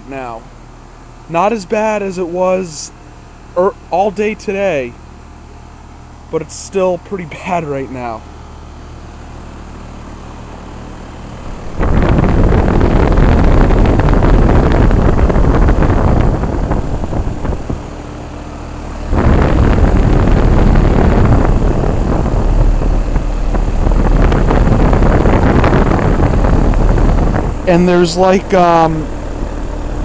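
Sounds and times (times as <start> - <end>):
air conditioner fan rushing: 0.0 - 30.0.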